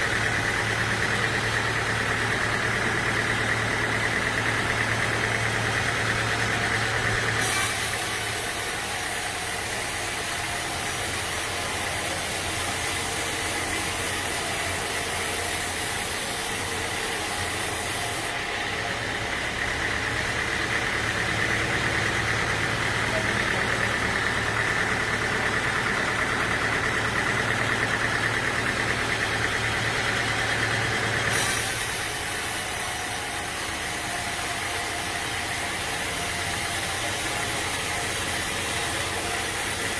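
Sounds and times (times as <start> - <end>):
sawmill engine whining and humming: 0.0 - 39.9.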